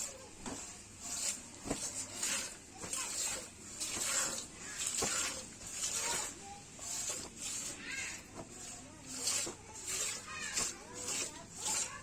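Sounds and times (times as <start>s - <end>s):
milk squirting into a pail: 0.0s - 12.0s.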